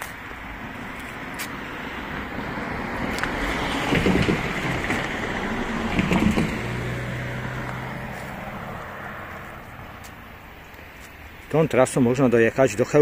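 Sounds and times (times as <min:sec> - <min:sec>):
car passing: 0:00.0 - 0:12.3.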